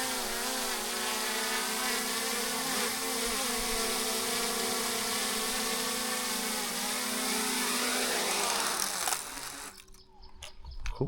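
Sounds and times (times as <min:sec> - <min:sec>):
drone propellers buzzing: 0:00.0 - 0:10.0.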